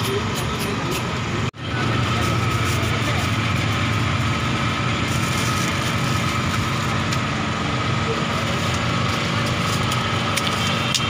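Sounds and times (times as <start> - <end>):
busy street noise: 0.0 - 11.0.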